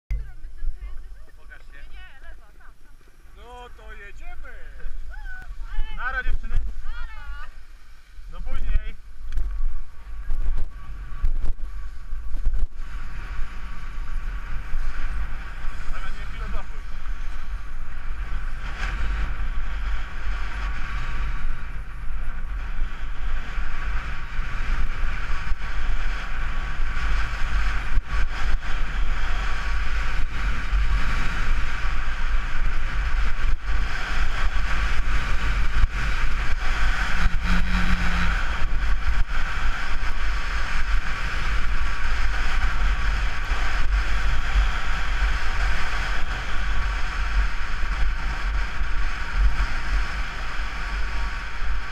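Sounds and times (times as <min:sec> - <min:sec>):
wind buffeting microphone: 0:00.1 - 0:51.9
skis sliding over snow: 0:01.2 - 0:51.9.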